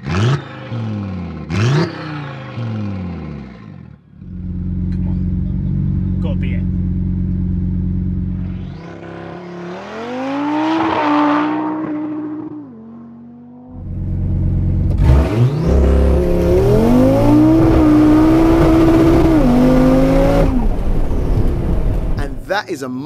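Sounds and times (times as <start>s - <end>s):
car engine at full throttle: 0.0s - 22.4s.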